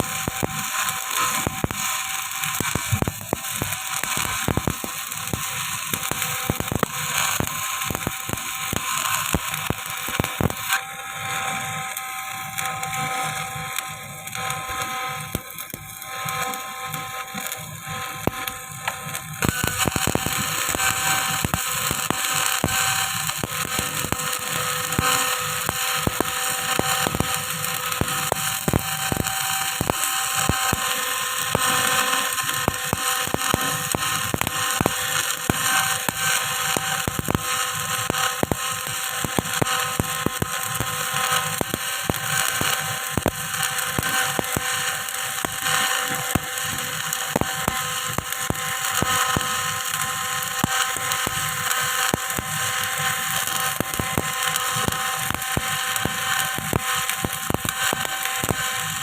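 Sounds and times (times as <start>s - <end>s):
electric arc welding crackle: 0.0s - 59.0s.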